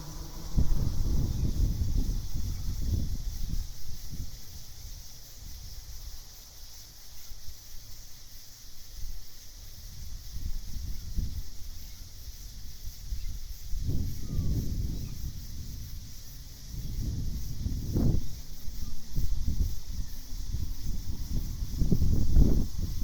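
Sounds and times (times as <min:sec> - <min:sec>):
gusty wind rumble: 0:00.0 - 0:06.0, 0:09.6 - 0:23.0
insect chorus: 0:00.0 - 0:23.0.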